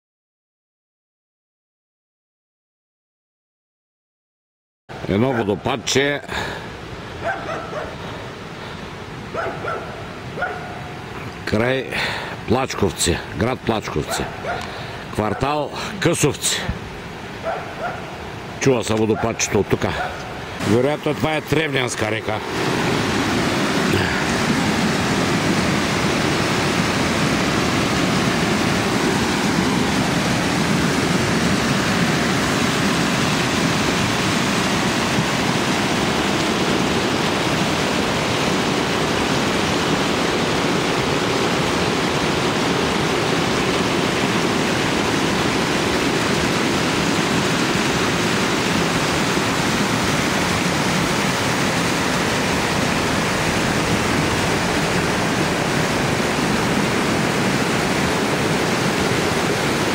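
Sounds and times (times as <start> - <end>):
waterfall rushing: 4.9 - 59.9.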